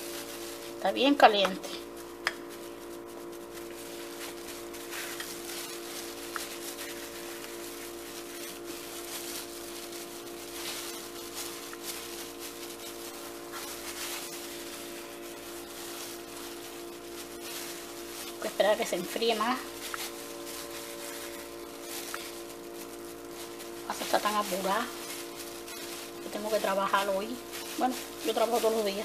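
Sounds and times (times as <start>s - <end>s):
plastic gloves crinkling: 0.0s - 29.0s
steady hum: 0.0s - 29.0s.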